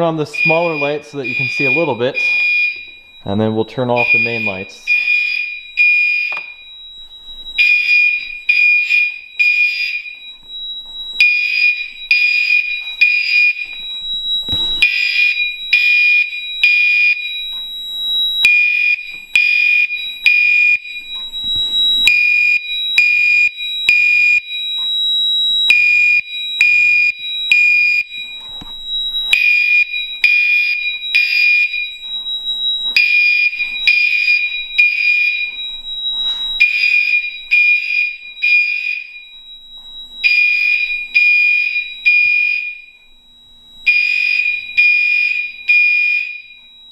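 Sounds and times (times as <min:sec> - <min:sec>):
fire alarm horns blasting: 0:00.0 - 0:46.9.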